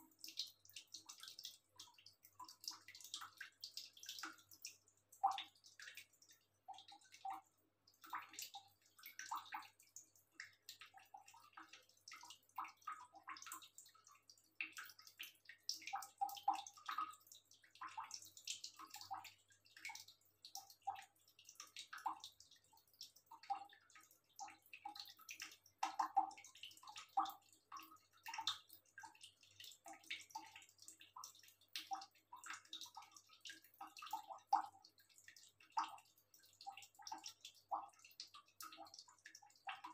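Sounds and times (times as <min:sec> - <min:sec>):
cat lapping water: 0:00.0 - 0:39.9
water dripping and trickling: 0:00.0 - 0:39.9.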